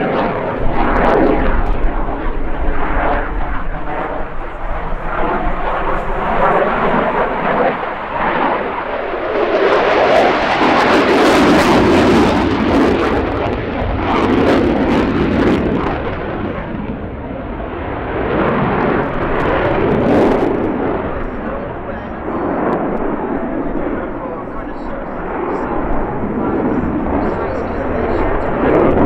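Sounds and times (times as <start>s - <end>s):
jet engines roaring overhead: 0.0s - 29.0s.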